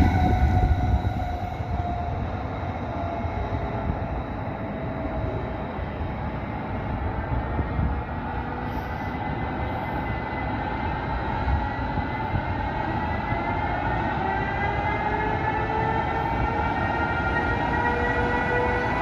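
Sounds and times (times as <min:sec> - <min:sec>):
train rumbling on track: 0:00.0 - 0:19.0
train whine rising in pitch: 0:00.0 - 0:19.0.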